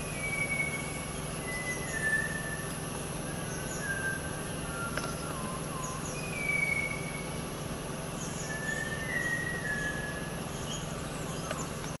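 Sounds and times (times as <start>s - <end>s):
faint high chirps: 0.0s - 12.0s
steady low hum: 0.0s - 12.0s
thrush whistling song: 0.0s - 12.0s.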